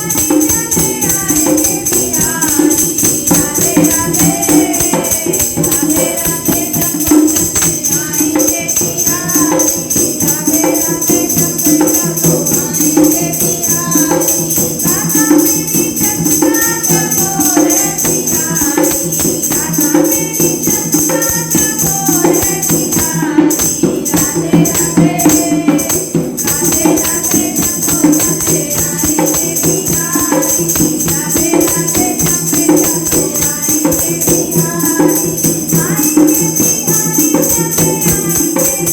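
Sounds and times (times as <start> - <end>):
jingling percussion: 0.0 - 38.9
women singing devotional song: 0.0 - 38.9.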